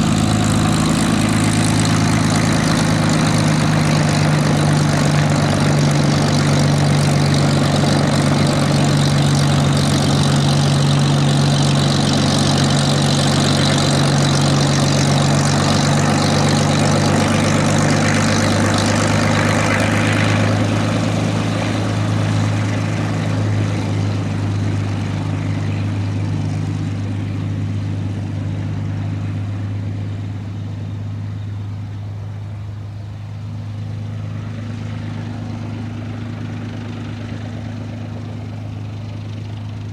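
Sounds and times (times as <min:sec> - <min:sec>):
propeller aircraft engine running: 0:00.0 - 0:39.9.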